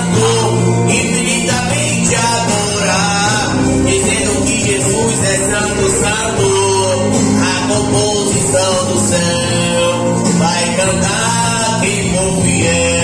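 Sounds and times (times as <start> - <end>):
man singing hymn hoarsely: 0.0 - 13.0
recorded instrumental accompaniment: 0.0 - 13.0.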